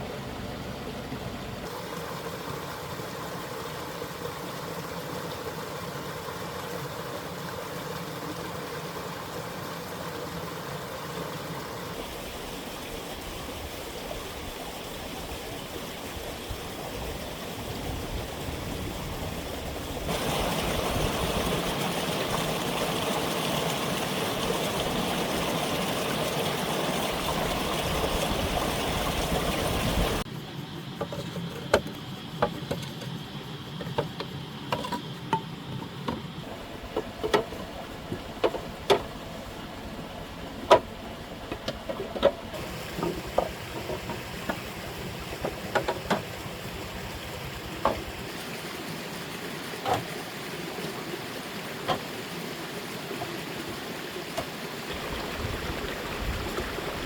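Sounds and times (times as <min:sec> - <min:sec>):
flowing water: 0:00.0 - 0:57.0
stream rushing: 0:00.0 - 0:57.0.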